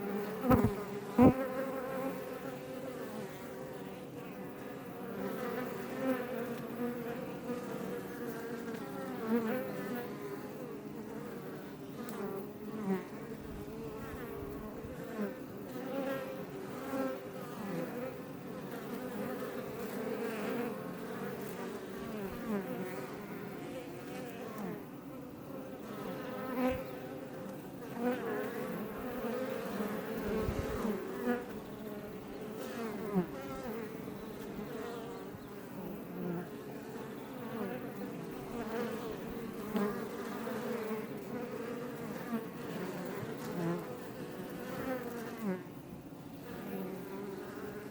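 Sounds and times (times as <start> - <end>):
bee buzzing past microphone: 0.0 - 47.9
honey bees buzzing: 0.0 - 47.9.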